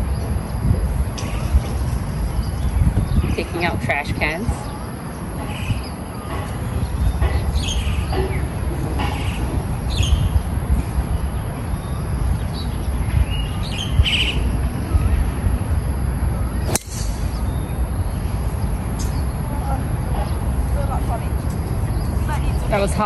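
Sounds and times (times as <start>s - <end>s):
wild birds chirping: 0.0s - 23.0s.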